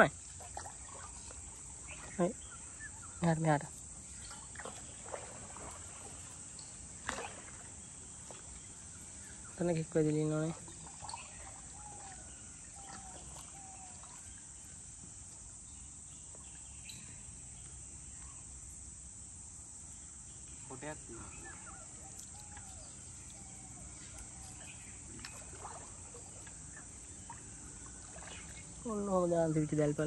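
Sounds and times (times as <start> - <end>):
bird calls: 0.0 - 15.0, 15.7 - 18.6, 20.0 - 30.0
insect chorus: 0.0 - 30.0.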